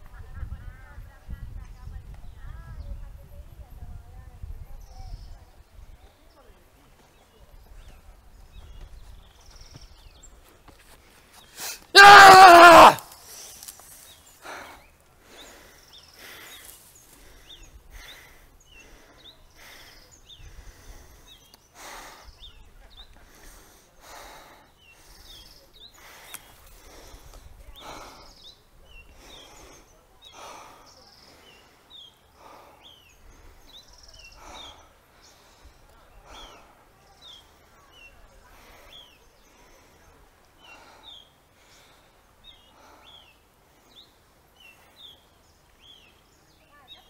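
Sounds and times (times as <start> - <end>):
small birds chirping: 0.1 - 11.9, 13.1 - 47.0.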